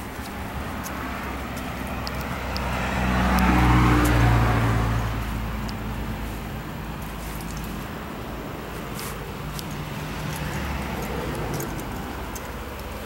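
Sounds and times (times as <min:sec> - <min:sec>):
motor vehicle passing by: 0:00.0 - 0:13.0
outdoor background noise: 0:00.0 - 0:13.0.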